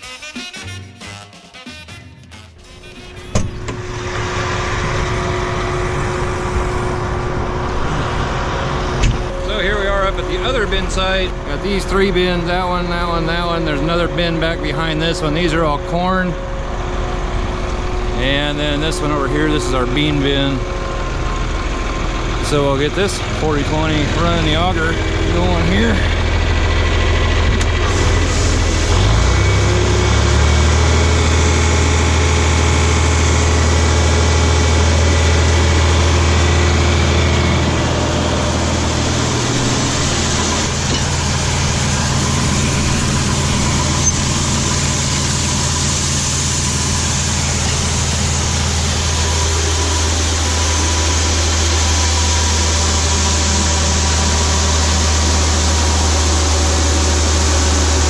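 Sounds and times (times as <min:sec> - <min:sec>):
tractor engine running: 0:02.6 - 0:58.0.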